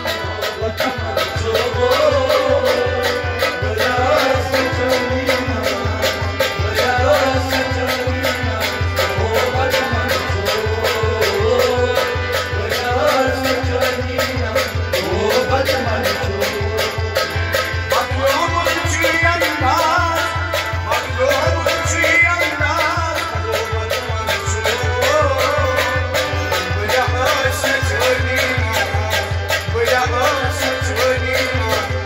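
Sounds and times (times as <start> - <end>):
clay pot drum beat: 0.0 - 32.0
harmonium melody: 0.0 - 32.0
plucked strings: 0.0 - 32.0.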